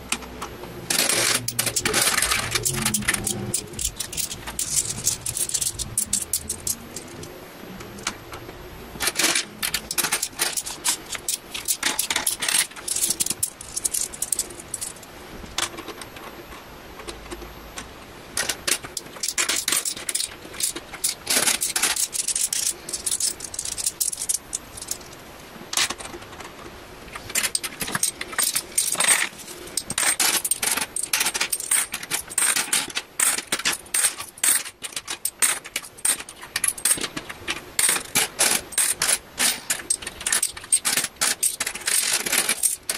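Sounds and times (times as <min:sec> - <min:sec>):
coins clinking: 0:00.9 - 0:07.3, 0:09.0 - 0:15.0, 0:18.4 - 0:25.1, 0:27.3 - 0:42.9.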